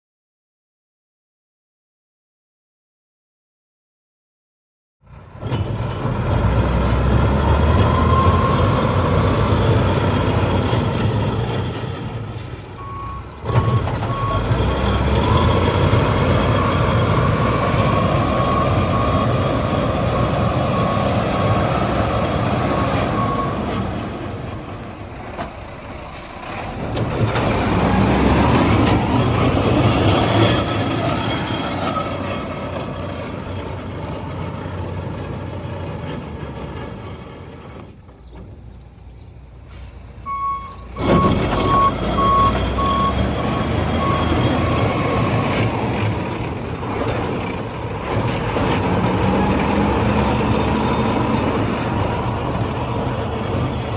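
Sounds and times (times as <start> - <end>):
diesel truck engine running: 5.0 - 53.9.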